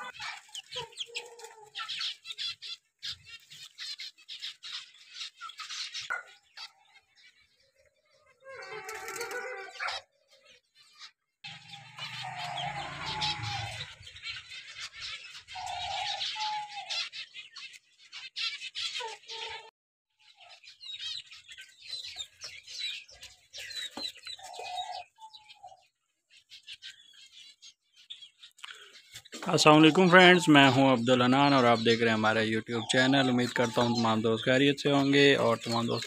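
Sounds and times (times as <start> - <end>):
small birds chirping and twittering: 0.0 - 36.0.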